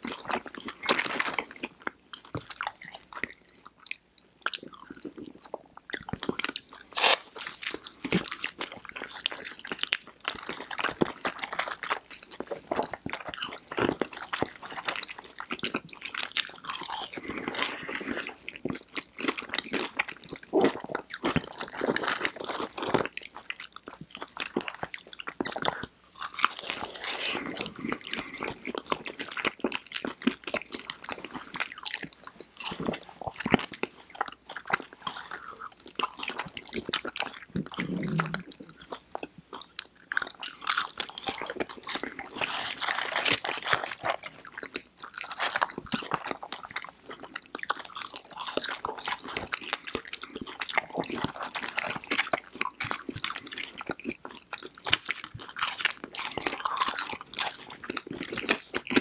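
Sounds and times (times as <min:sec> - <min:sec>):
chewing and crunching fried food: 0:00.0 - 0:59.0.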